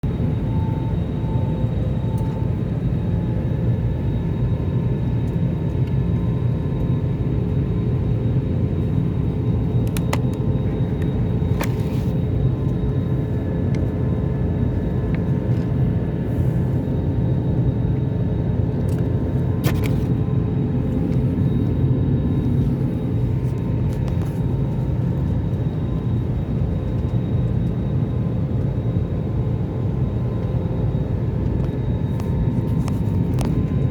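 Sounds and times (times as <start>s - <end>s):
airliner engine rumble in cabin: 0.0s - 33.9s.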